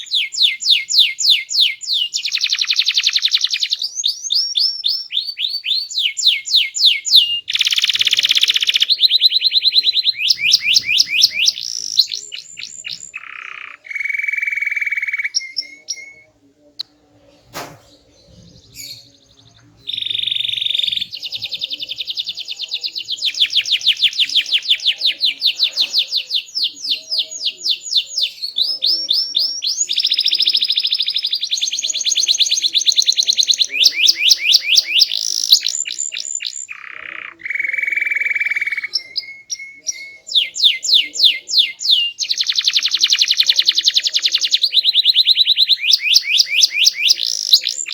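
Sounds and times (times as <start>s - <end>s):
canary singing trills: 0.0s - 17.0s, 17.9s - 47.9s.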